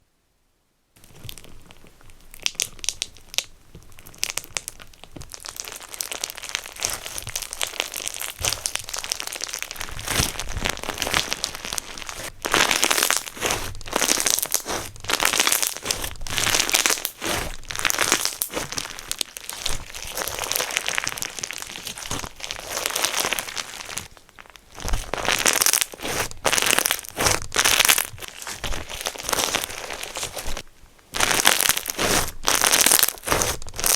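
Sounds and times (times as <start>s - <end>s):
slime squeezed crackling: 1.0s - 33.9s.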